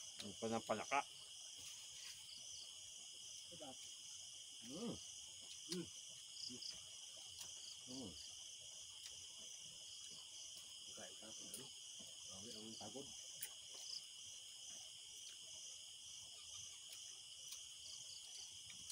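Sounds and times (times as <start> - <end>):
crickets trilling: 0.0 - 18.9
pulsing higher insect trill: 0.0 - 18.9.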